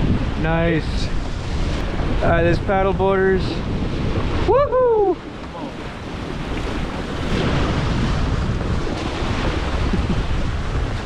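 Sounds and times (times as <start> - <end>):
water rushing along hulls: 0.0 - 11.0
wind buffeting microphone: 0.0 - 11.0.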